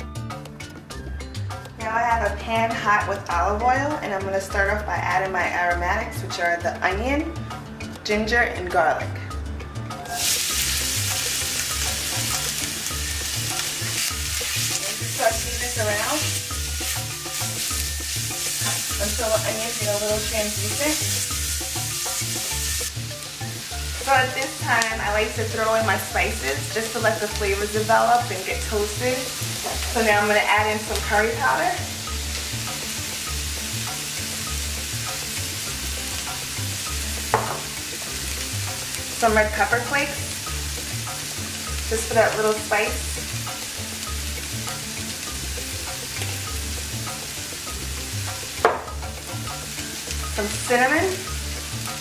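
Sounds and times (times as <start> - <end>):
onion sizzling in oil: 9.9 - 52.0.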